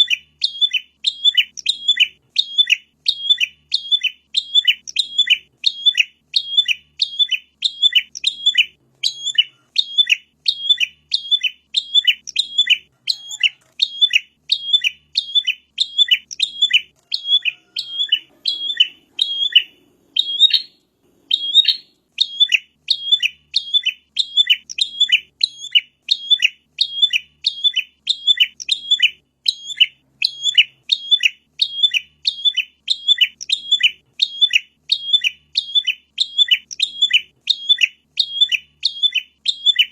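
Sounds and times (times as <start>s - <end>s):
bird chirping high and fast: 0.0s - 39.9s.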